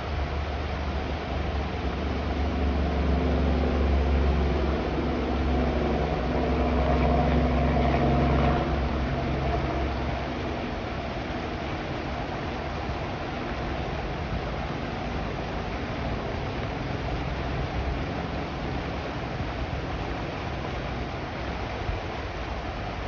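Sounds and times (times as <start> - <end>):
steady rain: 0.0 - 23.0
vehicle engine hum: 0.0 - 23.0.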